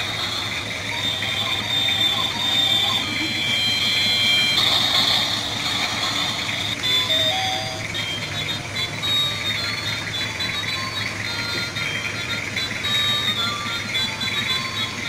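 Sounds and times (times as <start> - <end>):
high electronic notes: 0.0 - 15.0
small motor whirring: 0.0 - 15.0
toy wheels rattling: 0.0 - 15.0.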